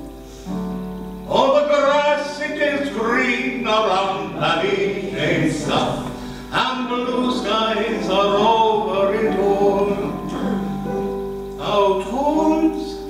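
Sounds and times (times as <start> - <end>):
man singing solo: 1.2 - 13.0.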